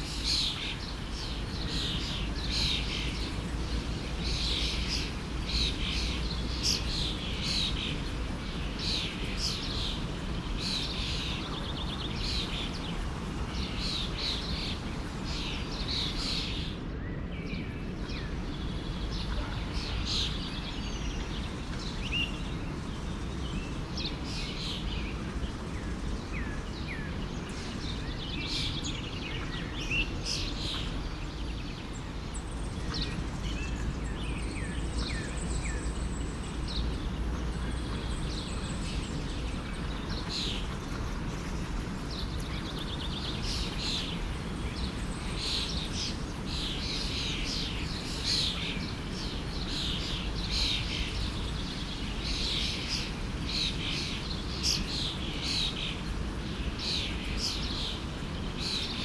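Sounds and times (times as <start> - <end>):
forest stream rushing: 0.0 - 16.9, 17.9 - 59.0
songbirds chirping and trilling: 0.0 - 59.0.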